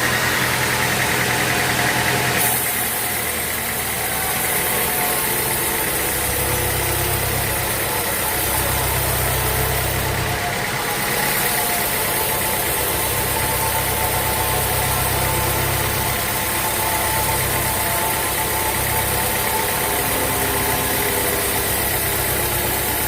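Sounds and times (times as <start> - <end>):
sawmill engine humming: 0.0 - 23.0.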